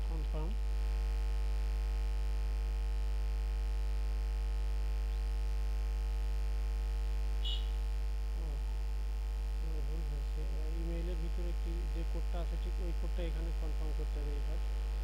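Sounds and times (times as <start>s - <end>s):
low electrical mains hum: 0.0s - 15.0s.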